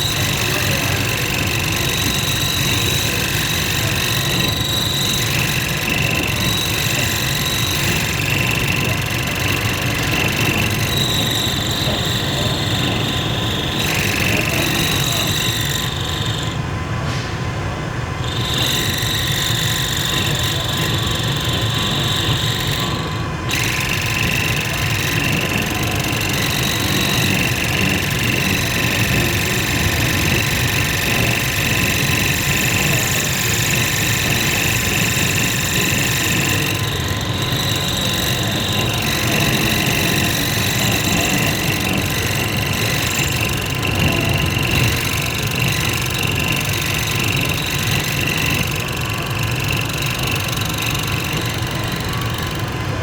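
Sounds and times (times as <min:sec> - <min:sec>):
lathe humming and rumbling: 0:00.0 - 0:53.0.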